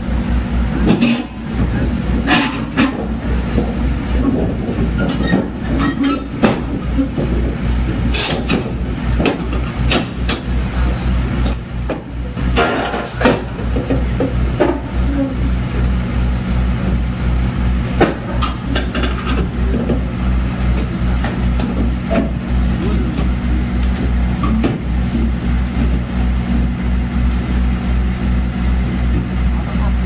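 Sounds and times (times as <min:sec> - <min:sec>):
excavator diesel engine throbbing: 0:00.0 - 0:30.0
steel tracks clanking on ramps: 0:00.0 - 0:30.0.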